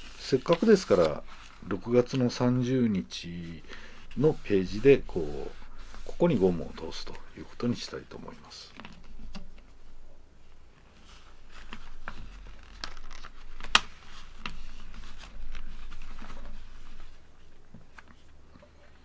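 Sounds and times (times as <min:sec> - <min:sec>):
paper rustling and rubbing: 0:00.0 - 0:09.9, 0:10.7 - 0:18.4.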